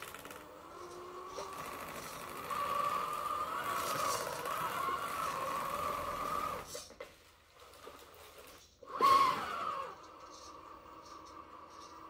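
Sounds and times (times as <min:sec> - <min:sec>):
toy car electric motor whining: 0:00.0 - 0:12.0.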